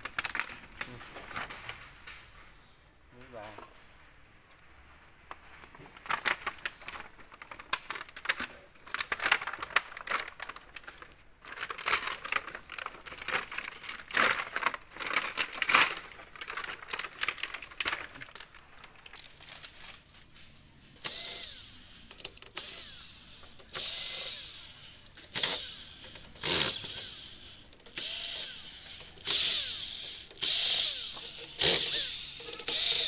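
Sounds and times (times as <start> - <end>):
plastic film crinkling: 0.0 - 2.6, 4.5 - 21.1, 23.4 - 33.0.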